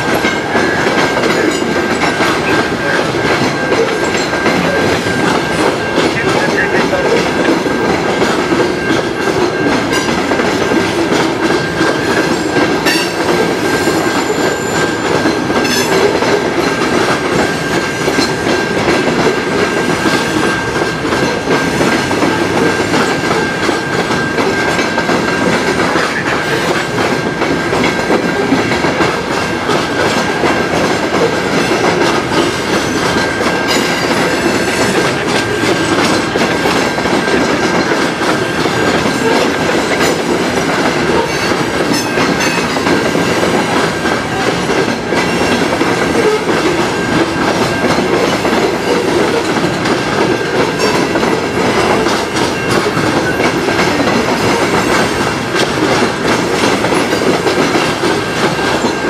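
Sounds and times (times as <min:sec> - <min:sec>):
train wheels clacking over rail joints: 0:00.0 - 0:59.0.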